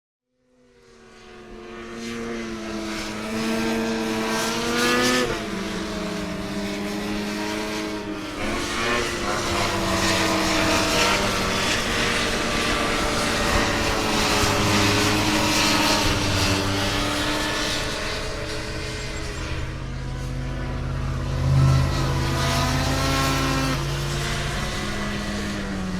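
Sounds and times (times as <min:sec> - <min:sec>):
snowmobile engine running: 0:01.6 - 0:25.9.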